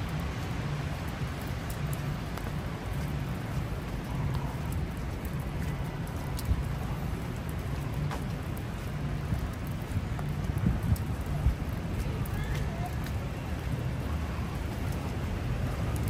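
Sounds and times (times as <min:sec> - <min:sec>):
city traffic rumble: 0:00.0 - 0:16.0
rain pattering on umbrella: 0:00.0 - 0:16.0.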